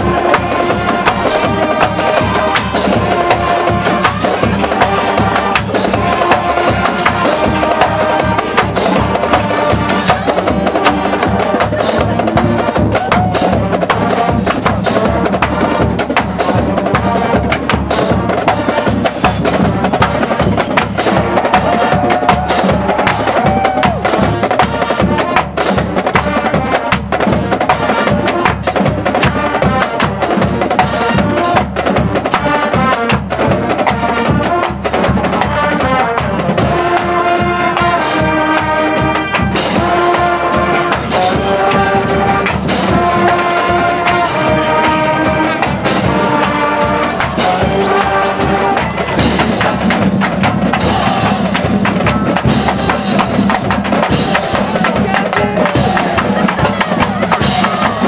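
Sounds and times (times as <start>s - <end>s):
brass holding notes: 0.0s - 58.0s
marching drumline: 0.0s - 58.0s.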